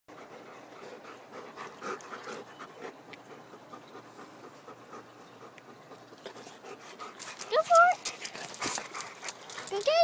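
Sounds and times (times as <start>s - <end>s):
dog panting: 0.1s - 10.0s.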